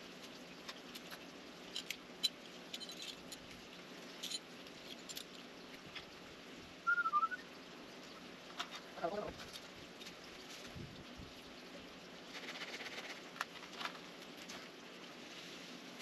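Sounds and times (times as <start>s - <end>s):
light ticks and rustles: 0.0s - 6.3s, 8.0s - 16.0s.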